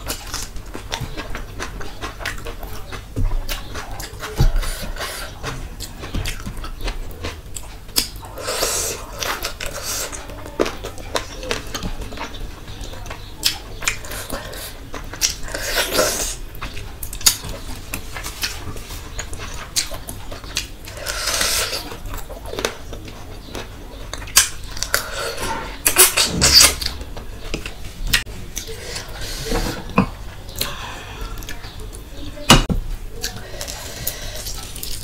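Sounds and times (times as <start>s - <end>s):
wet chewing and lip-smacking: 0.0s - 29.2s, 33.2s - 35.0s.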